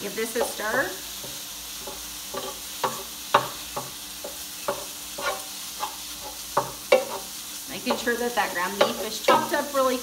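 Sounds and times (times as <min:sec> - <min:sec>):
meat sizzling: 0:00.0 - 0:10.0
spatula scraping a skillet: 0:00.3 - 0:10.0.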